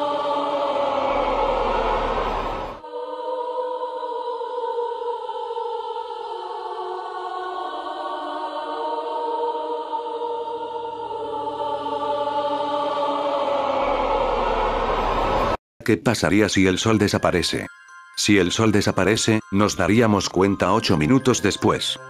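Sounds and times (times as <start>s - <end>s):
choir-like held chords: 0.0s - 15.6s, 18.2s - 22.0s.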